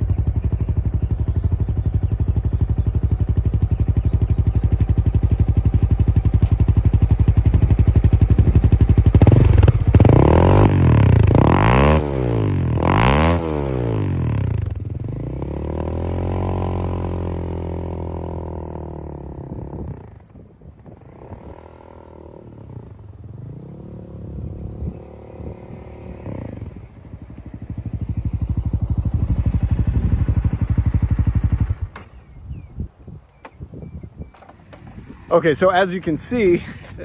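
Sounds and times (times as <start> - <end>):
motorcycle engine revving: 0.0 - 32.8.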